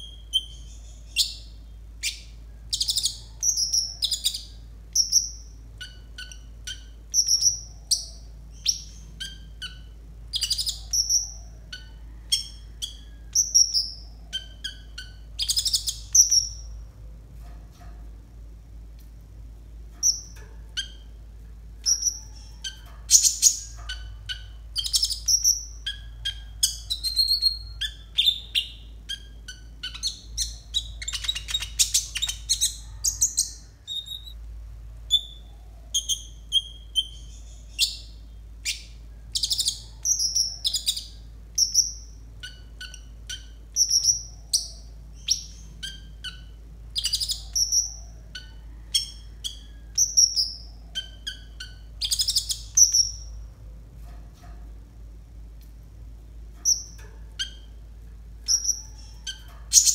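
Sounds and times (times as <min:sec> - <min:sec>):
bird twittering song: 0:00.0 - 0:16.8, 0:19.9 - 0:21.2, 0:21.8 - 0:34.4, 0:35.1 - 0:53.5, 0:56.5 - 0:59.9
faint low hum: 0:00.0 - 0:59.9.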